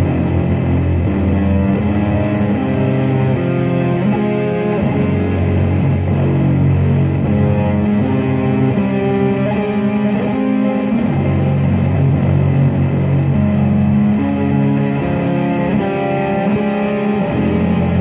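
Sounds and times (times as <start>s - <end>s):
ambient electric guitar: 0.0s - 18.0s.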